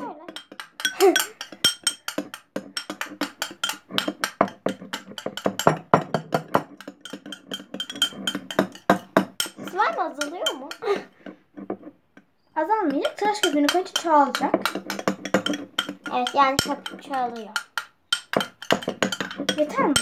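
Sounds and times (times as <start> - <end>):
spoons scraping bowls: 0.0 - 20.0.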